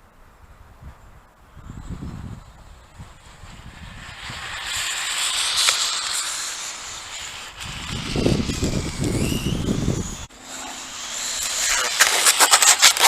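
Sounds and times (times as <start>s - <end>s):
faint rising whine: 1.6s - 13.0s
toy truck tyres hissing: 1.6s - 13.0s.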